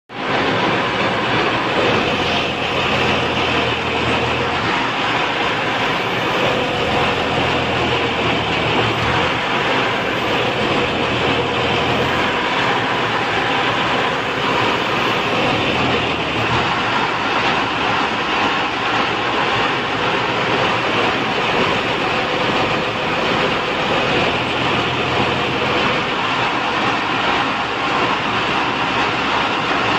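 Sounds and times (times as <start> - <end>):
crane diesel engine and hydraulics: 0.1 - 29.9.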